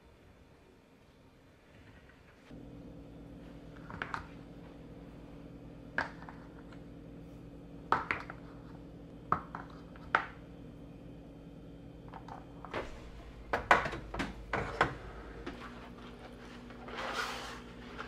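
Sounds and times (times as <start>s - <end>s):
steady low hum: 2.5s - 18.0s.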